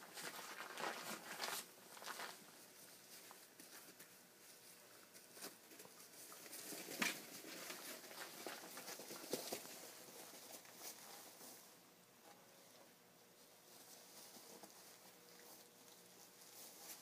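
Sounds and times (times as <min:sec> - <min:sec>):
puppies scuffling on bedding: 0:00.0 - 0:11.8, 0:13.4 - 0:17.0.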